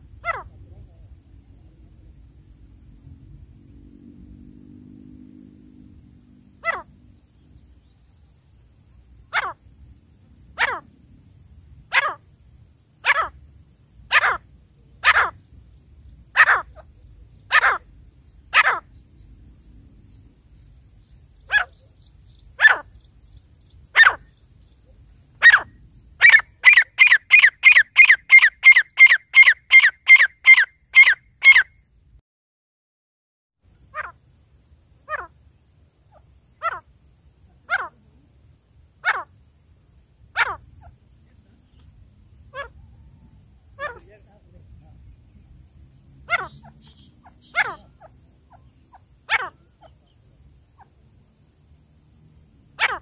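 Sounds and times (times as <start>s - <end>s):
francolin calling: 0.0s - 0.9s, 5.6s - 31.8s, 33.7s - 51.7s, 52.6s - 53.0s.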